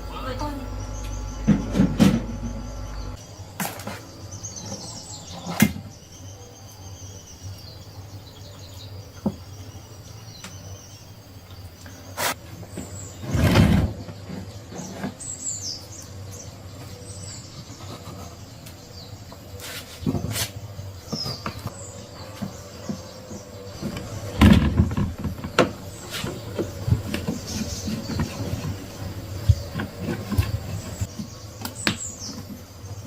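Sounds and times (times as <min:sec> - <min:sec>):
birds chirping: 0:00.0 - 0:33.0
low background hum: 0:00.0 - 0:33.0.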